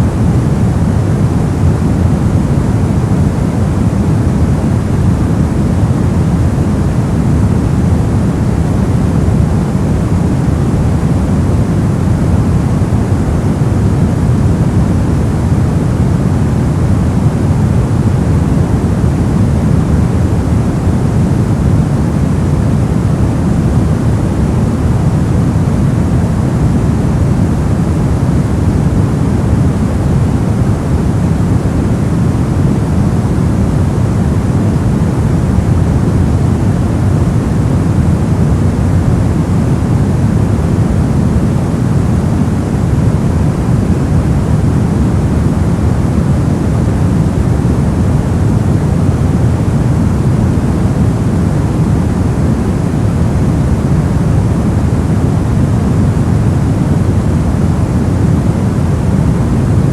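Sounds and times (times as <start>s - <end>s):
white noise: 0.0s - 59.9s.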